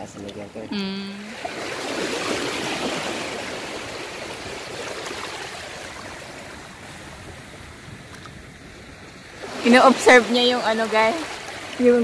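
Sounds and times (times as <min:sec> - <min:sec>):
small waves washing on shore: 0:01.2 - 0:12.0.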